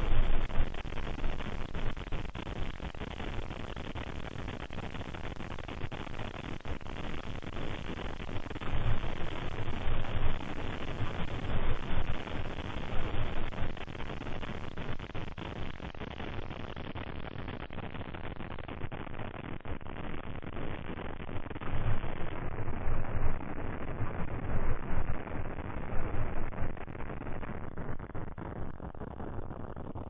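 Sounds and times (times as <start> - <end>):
static-like hiss: 0.0 - 30.0.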